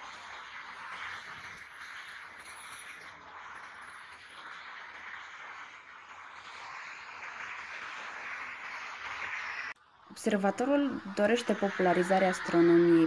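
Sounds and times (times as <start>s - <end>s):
hissing outdoor background noise: 0.0s - 13.0s.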